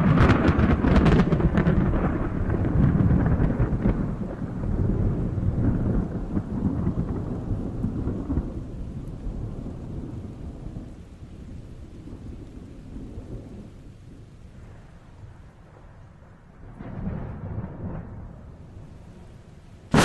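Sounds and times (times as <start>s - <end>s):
rolling thunder: 0.0s - 19.3s
rain: 0.0s - 20.0s.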